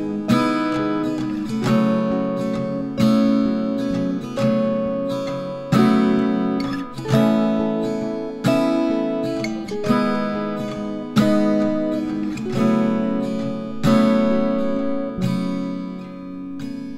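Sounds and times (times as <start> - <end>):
acoustic guitar chords strummed: 0.0 - 16.9.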